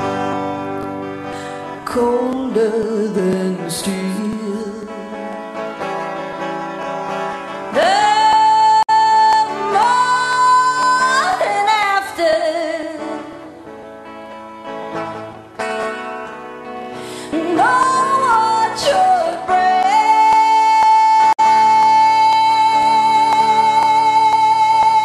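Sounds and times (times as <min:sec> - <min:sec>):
person singing long notes: 0:00.0 - 0:06.1, 0:07.6 - 0:13.7, 0:16.8 - 0:25.0
instrumental backing music: 0:00.0 - 0:25.0.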